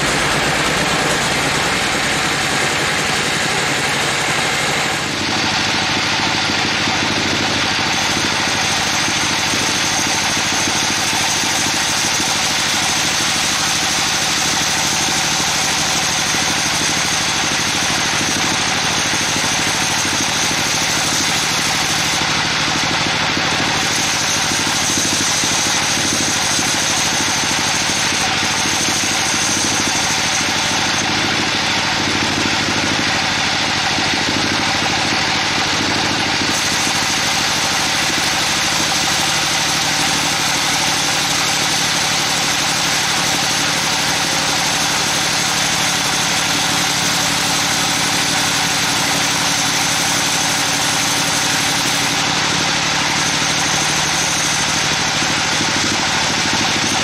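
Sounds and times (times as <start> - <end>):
bandsaw cutting through log: 0.0 - 57.0.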